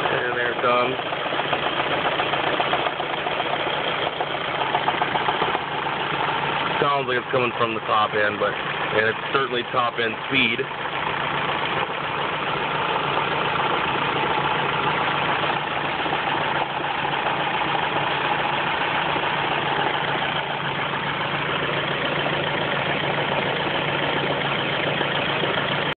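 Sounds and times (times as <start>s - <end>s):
car engine idling with knock: 0.0s - 26.0s.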